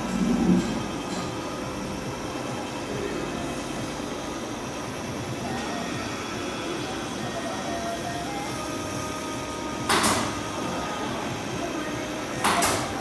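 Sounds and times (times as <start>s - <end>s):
faint steady whine: 0.0s - 13.0s
machinery rumbling and hissing: 0.0s - 13.0s.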